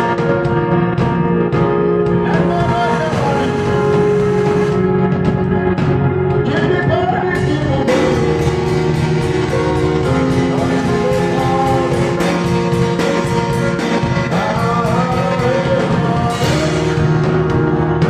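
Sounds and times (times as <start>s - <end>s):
guitar: 0.0s - 18.0s
steady beat: 0.0s - 18.0s
person singing: 1.7s - 18.0s.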